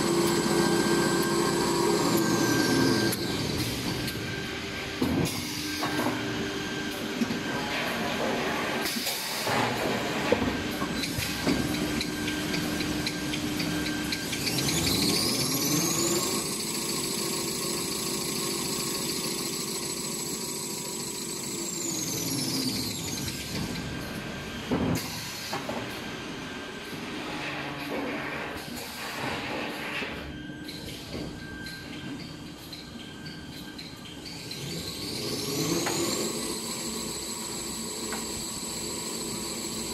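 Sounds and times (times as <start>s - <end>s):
machine clatter and hiss: 0.0s - 39.9s
machine whine: 0.0s - 39.9s.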